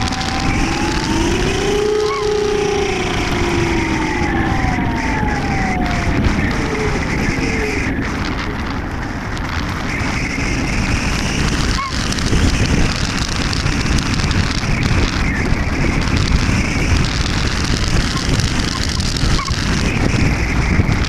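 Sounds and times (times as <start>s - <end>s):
electric motor and propeller whine: 0.0s - 21.0s
wind rushing over microphone: 0.0s - 21.0s.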